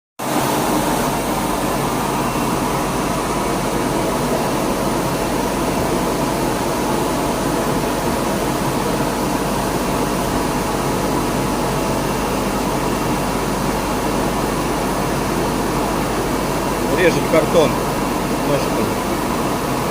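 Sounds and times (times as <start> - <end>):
cutting plotter machine whir: 0.2 - 19.9.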